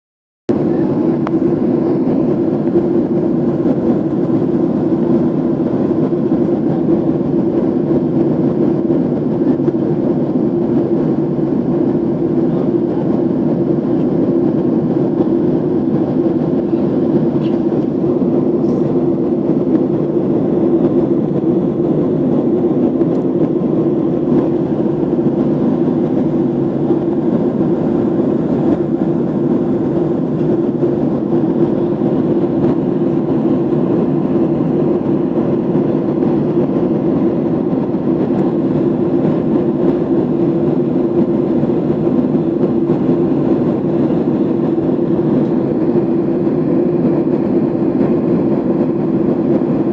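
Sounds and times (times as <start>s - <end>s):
airliner cabin engine drone: 0.5s - 49.9s.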